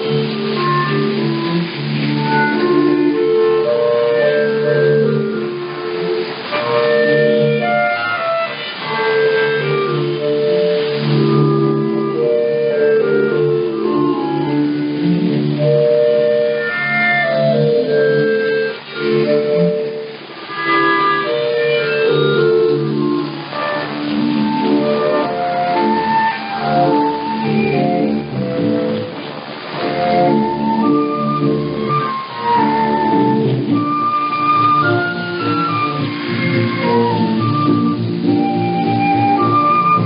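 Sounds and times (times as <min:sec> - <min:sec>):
orchestral music over shortwave radio: 0:00.0 - 0:40.0.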